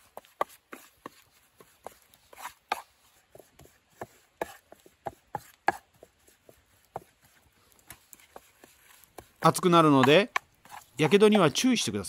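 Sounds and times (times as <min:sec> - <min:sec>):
wooden spatula scraping metal pan: 0:00.0 - 0:11.9.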